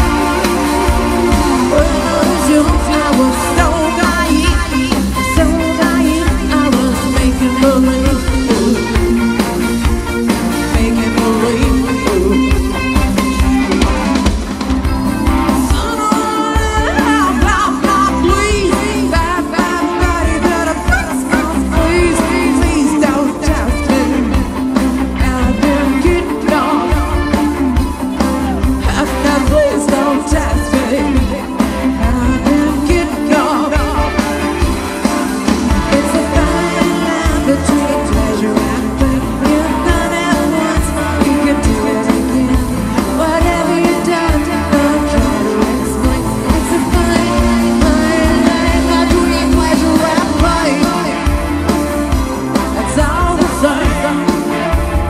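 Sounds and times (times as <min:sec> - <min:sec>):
rock song with singer and band: 0:00.0 - 0:55.0.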